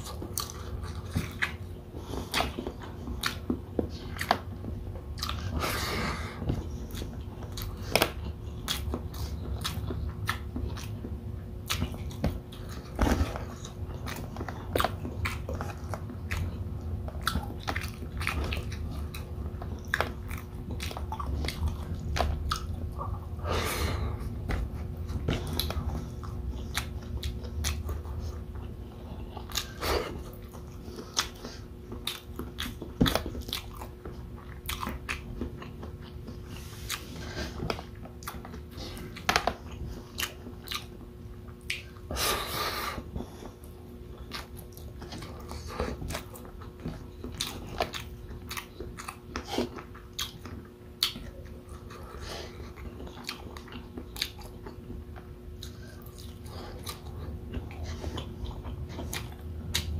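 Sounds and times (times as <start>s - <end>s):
wet chewing: 0.0s - 59.9s
lip smacks and clicks: 6.4s - 22.9s, 24.3s - 42.1s, 44.2s - 52.0s, 52.6s - 59.9s.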